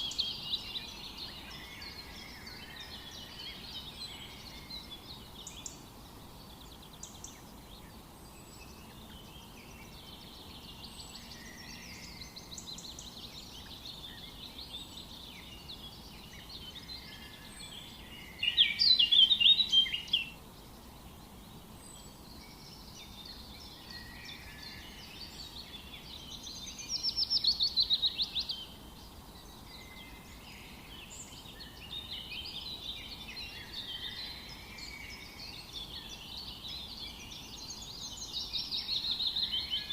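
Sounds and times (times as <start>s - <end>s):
soft background hiss: 0.0s - 39.9s
songbirds singing and chirping: 0.0s - 39.9s.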